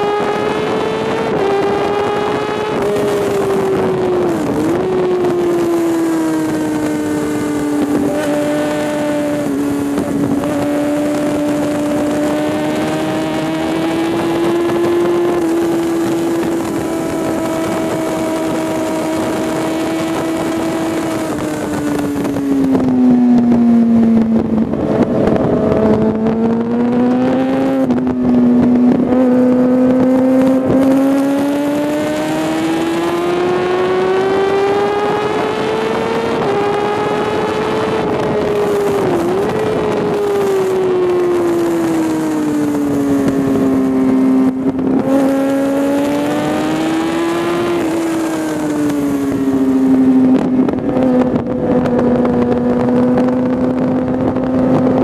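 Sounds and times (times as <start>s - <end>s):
motorcycle engine at high revs: 0.0s - 55.0s
wind rushing over camera: 0.0s - 55.0s.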